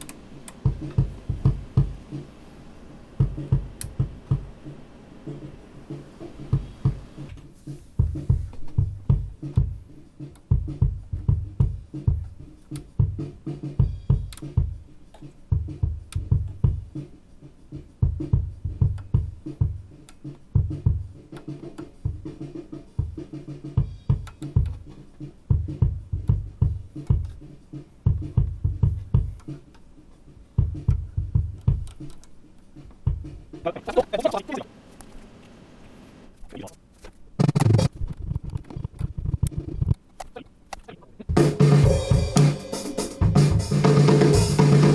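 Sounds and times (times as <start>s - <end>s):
drum kit playing funk groove: 0.0s - 2.4s, 3.2s - 34.7s, 37.4s - 44.9s.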